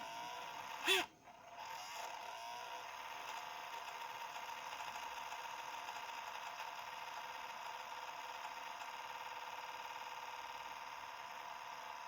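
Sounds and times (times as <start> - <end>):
small cooling fan whining: 0.0 - 12.0.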